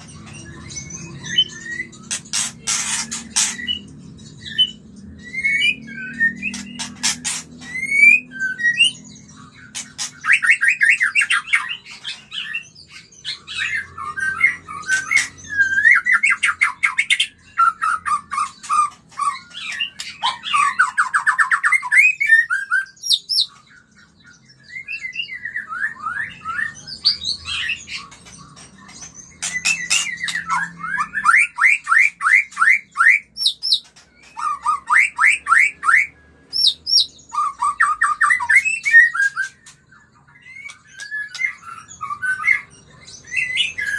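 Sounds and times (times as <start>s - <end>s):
songbird whistling song: 0.0s - 43.9s.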